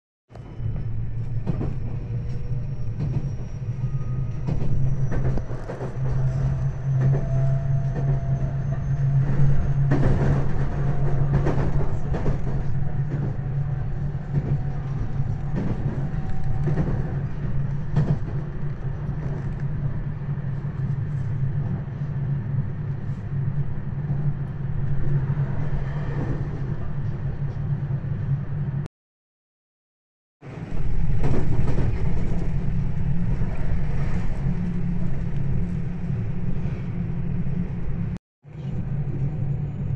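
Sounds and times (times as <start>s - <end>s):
train interior low rumble: 0.3s - 28.9s, 30.4s - 39.9s.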